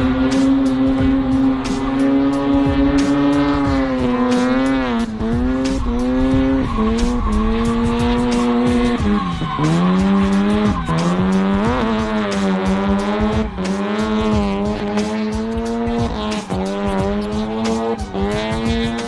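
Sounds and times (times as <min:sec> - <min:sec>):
rotary engine at high revs: 0:00.0 - 0:19.0
tyres squealing and skidding: 0:00.0 - 0:19.0.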